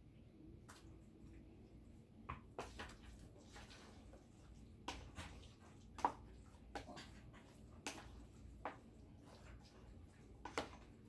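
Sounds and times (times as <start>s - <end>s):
wet squelches of mixing salad: 0.6s - 11.0s.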